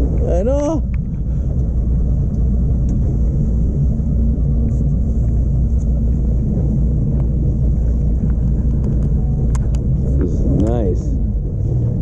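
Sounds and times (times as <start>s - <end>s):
low rumble: 0.0s - 12.0s
motorboat engine drone: 0.0s - 12.0s.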